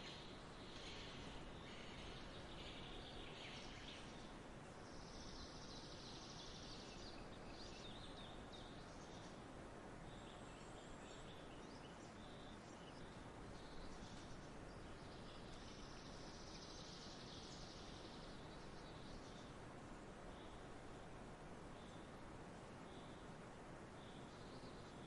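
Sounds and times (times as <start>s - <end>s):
soft outdoor hiss: 0.0s - 25.0s.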